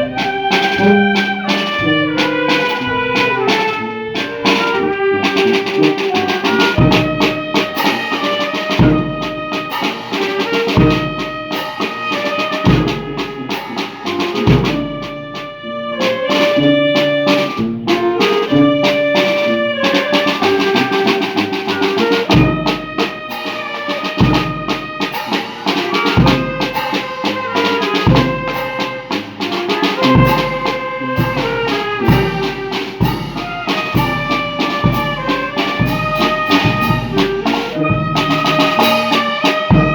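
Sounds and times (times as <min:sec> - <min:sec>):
brass band playing: 0:00.0 - 0:39.9
drum kit: 0:00.0 - 0:39.9.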